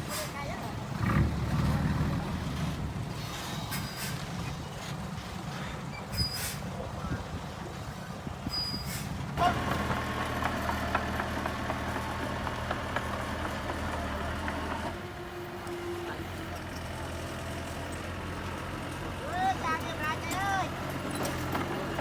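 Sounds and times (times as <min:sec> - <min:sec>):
heavy machinery diesel engines: 0:00.0 - 0:22.0.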